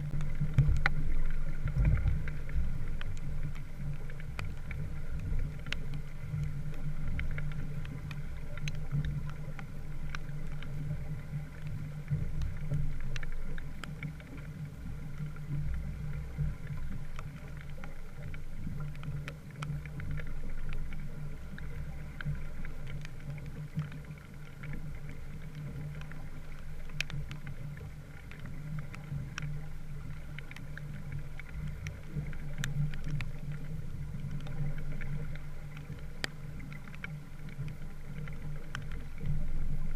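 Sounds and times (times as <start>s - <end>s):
light ticks: 0.0s - 39.9s
steady low hum: 0.0s - 39.9s
water rushing along hull: 0.0s - 39.9s.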